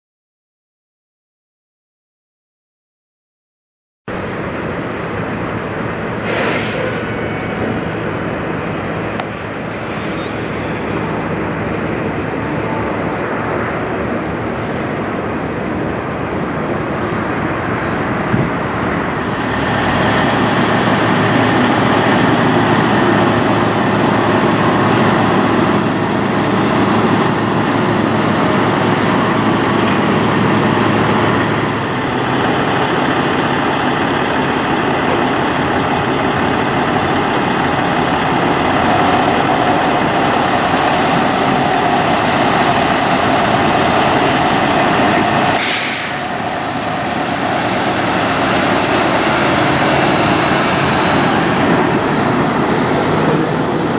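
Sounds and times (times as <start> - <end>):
diesel trucks engine and tyres: 4.1 - 53.9.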